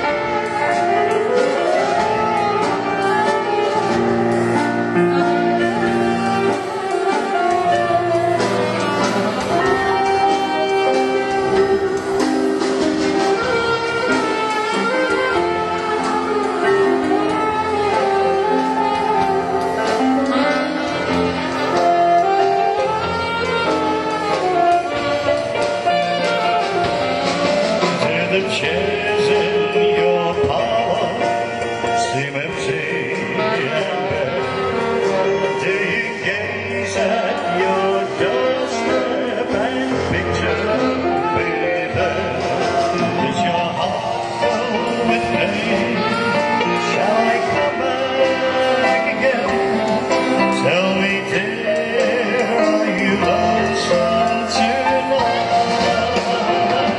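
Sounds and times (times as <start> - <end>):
man singing into a microphone: 0.0 - 24.9, 26.4 - 56.9
grand piano: 0.0 - 56.9
live band playing: 0.0 - 56.9
long held lead melody notes: 0.0 - 56.9
old-time dance music: 0.0 - 56.9.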